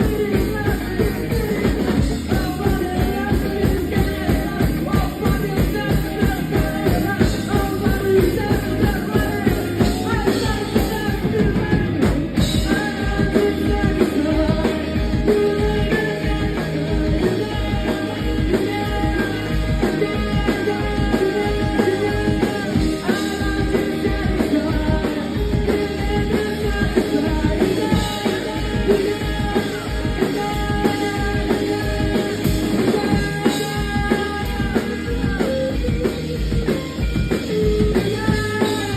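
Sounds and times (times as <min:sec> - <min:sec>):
drums fast beat: 0:00.0 - 0:38.9
electric guitars and bass: 0:00.0 - 0:38.9
person singing: 0:00.0 - 0:38.9.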